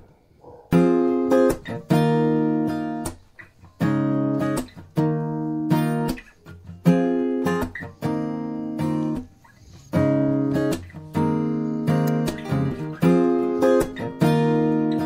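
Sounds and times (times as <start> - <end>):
acoustic guitar strumming chords: 0.7 - 15.0.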